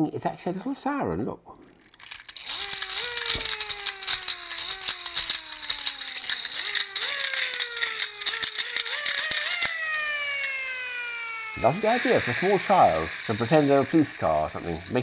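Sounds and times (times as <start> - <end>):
metallic mechanism rattle: 1.6 - 15.0
hand-cranked siren whining: 2.0 - 15.0.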